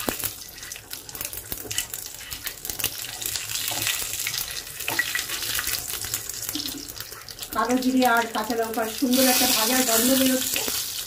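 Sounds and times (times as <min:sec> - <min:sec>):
seeds sizzling in hot oil: 0:00.0 - 0:11.0.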